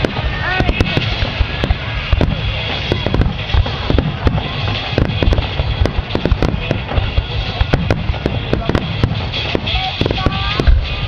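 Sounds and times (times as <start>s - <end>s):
fireworks bangs and crackles: 0.0s - 11.0s
steady din: 0.0s - 11.0s.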